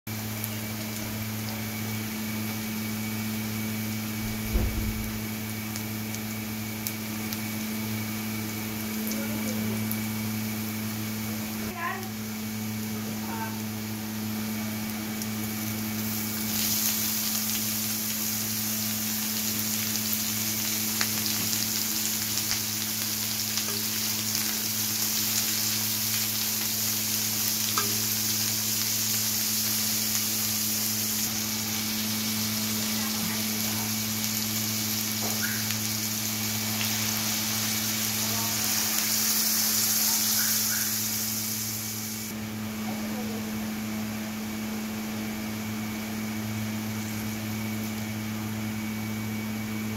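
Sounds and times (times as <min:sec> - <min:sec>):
food sizzling in oil: 0:00.1 - 0:42.4, 0:43.5 - 0:49.9.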